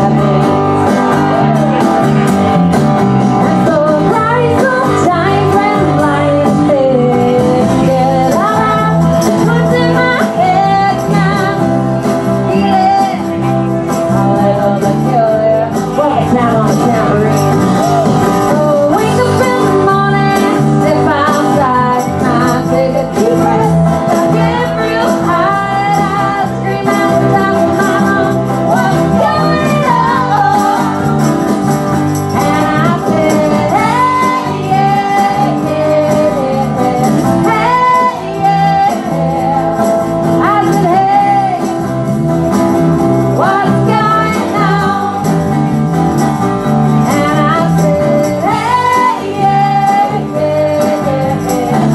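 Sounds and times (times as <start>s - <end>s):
woman singing lead: 0.0s - 2.1s, 3.4s - 42.1s, 43.0s - 45.6s, 46.9s - 51.9s
acoustic guitar: 0.0s - 51.9s
drums: 0.0s - 51.9s
electric bass: 0.0s - 51.9s.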